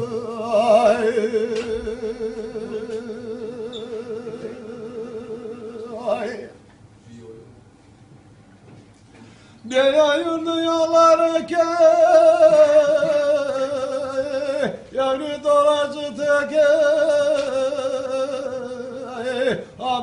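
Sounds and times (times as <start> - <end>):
man singing unaccompanied: 0.0 - 6.6, 9.6 - 20.0.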